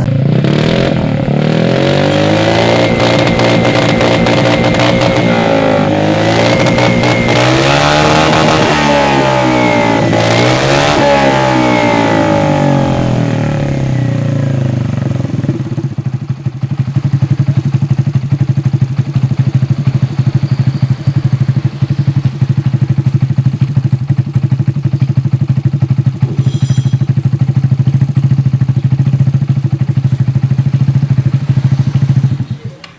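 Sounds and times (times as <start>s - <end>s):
scooter engine revving and idling: 0.0s - 32.9s.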